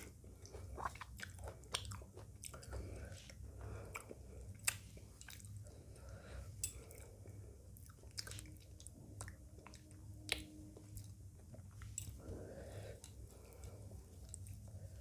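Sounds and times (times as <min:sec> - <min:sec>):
chewing food: 0:00.0 - 0:15.0
faint low hum: 0:00.0 - 0:15.0.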